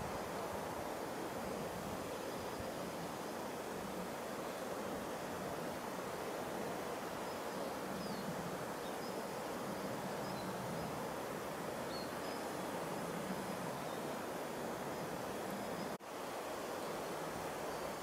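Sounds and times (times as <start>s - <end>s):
woodland background hiss: 0.0s - 18.0s.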